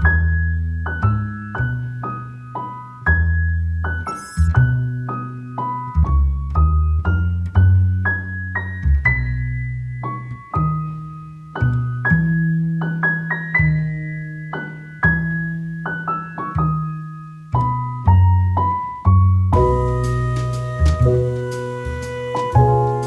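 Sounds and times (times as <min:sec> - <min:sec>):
solo piano music: 0:00.0 - 0:23.0.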